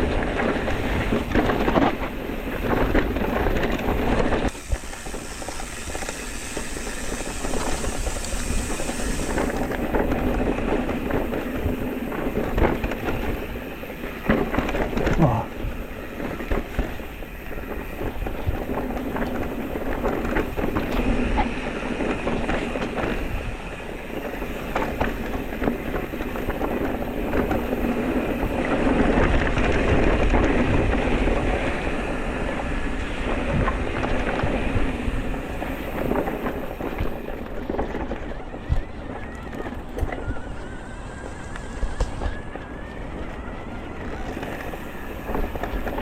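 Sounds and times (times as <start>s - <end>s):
bike rattling over bumps: 0.0s - 46.0s
wind rumble on microphone: 0.0s - 46.0s.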